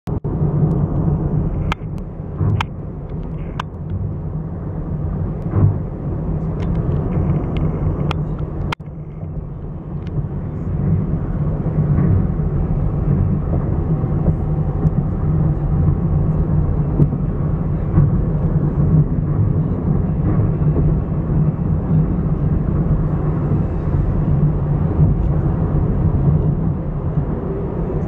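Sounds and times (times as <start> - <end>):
car cabin road rumble: 0.1 - 28.0.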